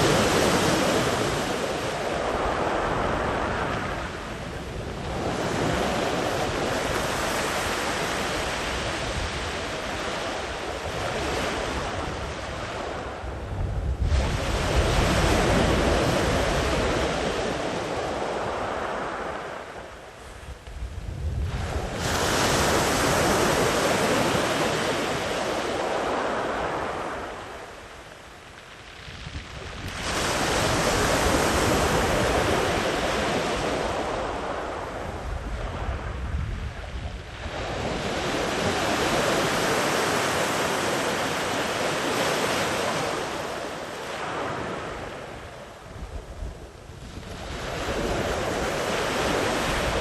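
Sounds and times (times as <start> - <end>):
sea waves breaking on beach: 0.0 - 50.0.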